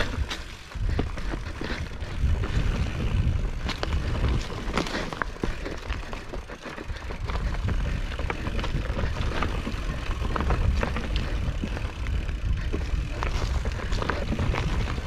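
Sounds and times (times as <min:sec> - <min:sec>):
bike clattering over rocks: 0:00.0 - 0:15.0.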